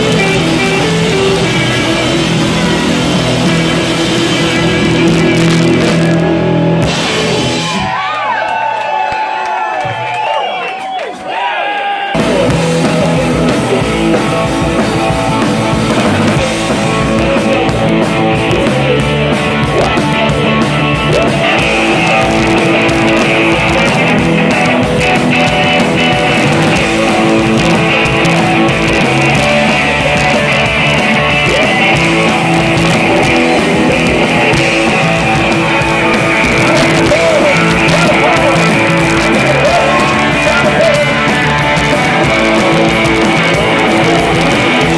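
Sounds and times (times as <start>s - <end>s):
rock band playing: 0.0s - 8.4s, 12.0s - 44.9s.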